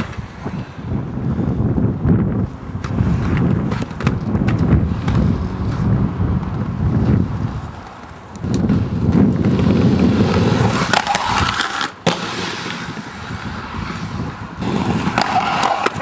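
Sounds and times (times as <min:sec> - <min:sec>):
skate landing clack: 0:00.0 - 0:00.6, 0:02.8 - 0:16.0
inline skates rolling on concrete: 0:00.0 - 0:16.0
skates grinding on concrete ledge: 0:00.0 - 0:16.0.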